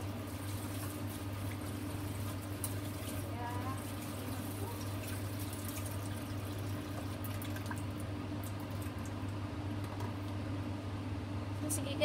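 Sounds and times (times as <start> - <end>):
food bubbling in covered pan: 0.0 - 10.4
steady low hum: 0.0 - 12.0.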